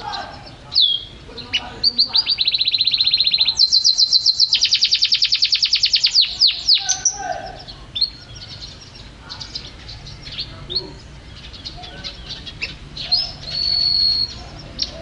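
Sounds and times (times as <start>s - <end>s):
canary singing trills: 0.0s - 15.0s.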